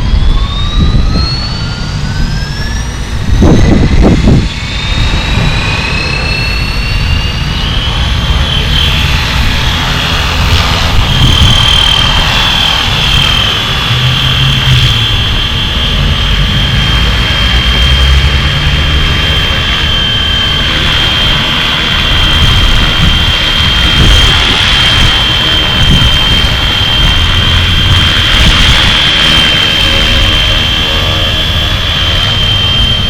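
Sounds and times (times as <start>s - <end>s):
rc helicopter high whine: 0.0s - 33.0s
rotor rushing noise: 0.0s - 33.0s.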